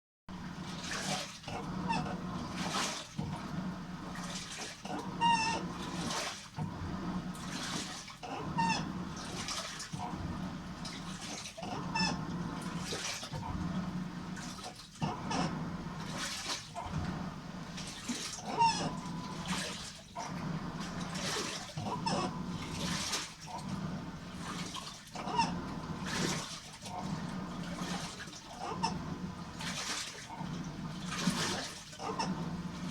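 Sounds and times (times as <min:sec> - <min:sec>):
washing machine water sloshing: 0:00.3 - 0:32.9.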